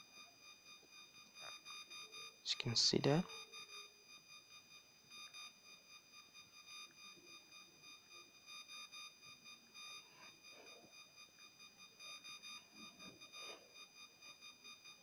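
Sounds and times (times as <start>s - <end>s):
faint high-pitched electronic whine: 0.0s - 15.0s.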